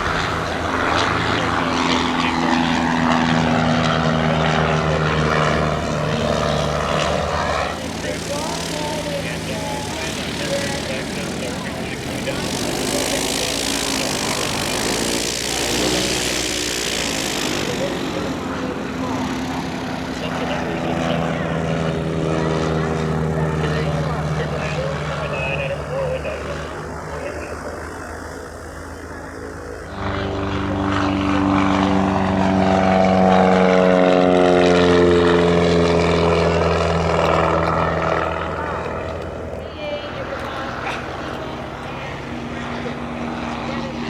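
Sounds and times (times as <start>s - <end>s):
propeller aircraft engine running: 0.0s - 44.0s.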